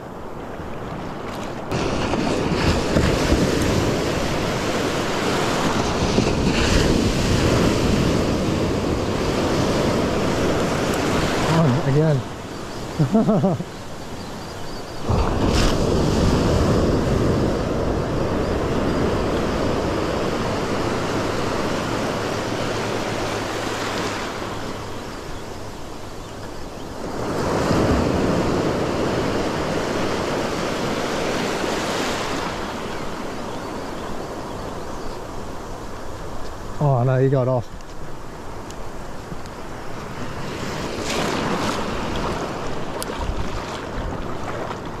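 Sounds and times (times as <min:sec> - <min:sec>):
shallow surf breaking: 0:00.0 - 0:45.0.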